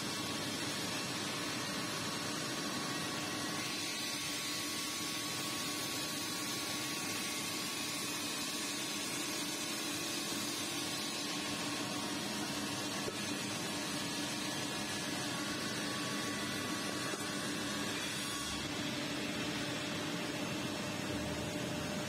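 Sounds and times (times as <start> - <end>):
machine hum with hiss: 0.0 - 22.0.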